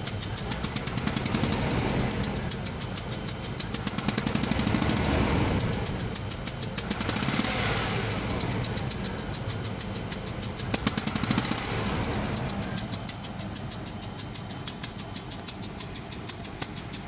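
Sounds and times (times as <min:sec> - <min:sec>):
car engine humming: 0:00.0 - 0:17.0
fast regular engine clicking: 0:00.0 - 0:17.0.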